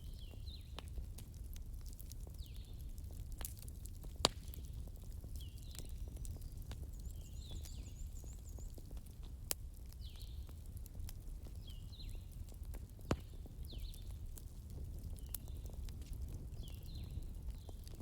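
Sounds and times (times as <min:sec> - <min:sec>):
wood fire crackling: 0:00.0 - 0:18.0
sharp pops of fire: 0:00.3 - 0:07.8, 0:10.0 - 0:18.0.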